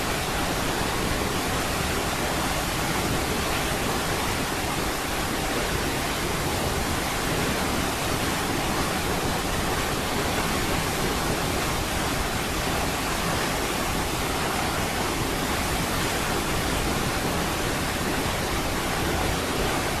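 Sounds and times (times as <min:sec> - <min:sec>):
large waterfall rushing: 0:00.0 - 0:20.0.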